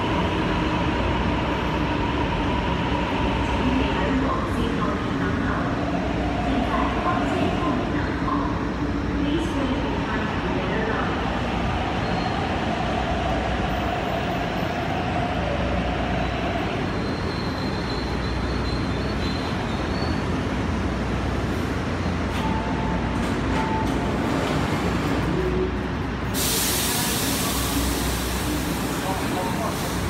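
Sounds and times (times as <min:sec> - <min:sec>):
electric train rumble: 0:00.0 - 0:30.0.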